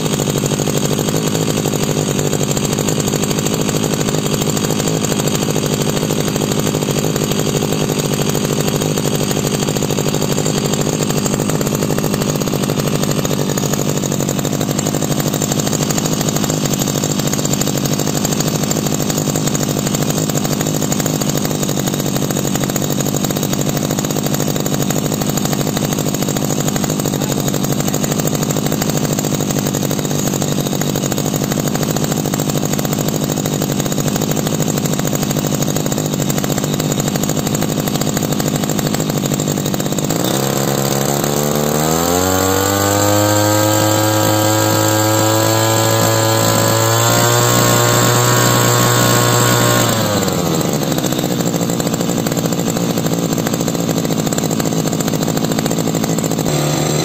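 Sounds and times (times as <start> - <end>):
brush cutter engine revving: 0.0 - 57.0.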